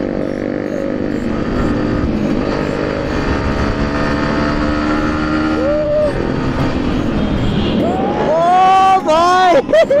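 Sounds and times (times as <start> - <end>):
rising and falling tone: 0.0 - 8.9
motorcycle engine running: 0.0 - 9.2.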